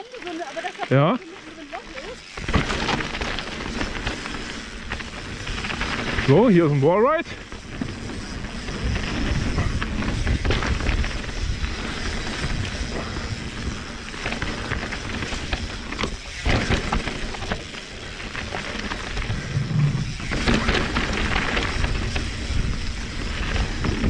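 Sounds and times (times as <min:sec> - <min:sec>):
bike rattling and knocking: 0:00.0 - 0:24.0
bike tyres rolling on dirt: 0:00.0 - 0:24.0.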